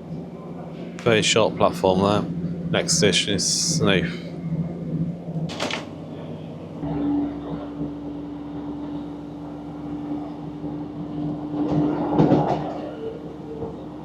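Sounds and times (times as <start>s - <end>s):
train engine drone: 0.0s - 14.0s
wheels rumbling on rails: 0.0s - 14.0s.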